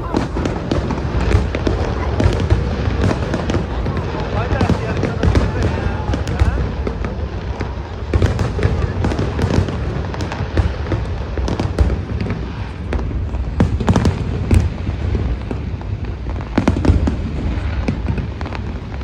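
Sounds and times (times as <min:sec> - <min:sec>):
firework bangs and crackles: 0:00.0 - 0:19.0.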